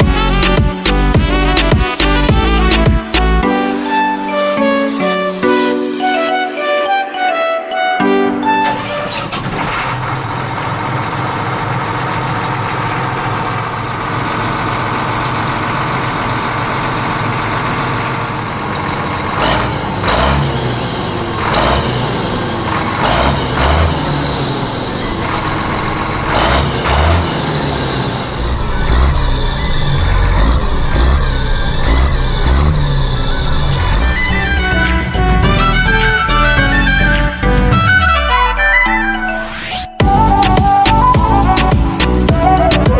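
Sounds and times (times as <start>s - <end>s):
diesel engine running and surging: 0.0s - 3.4s, 8.4s - 38.6s, 40.0s - 42.9s.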